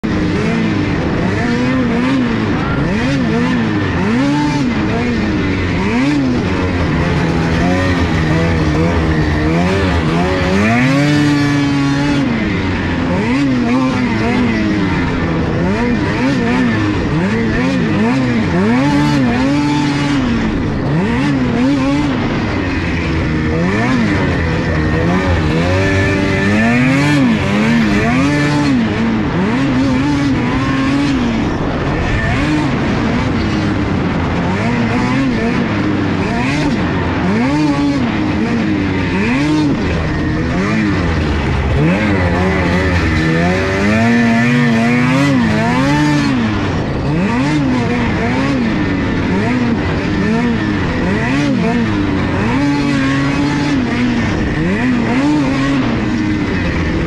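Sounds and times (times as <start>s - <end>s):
snowmobile engine revving: 0.0s - 57.0s
track and wind noise: 0.0s - 57.0s.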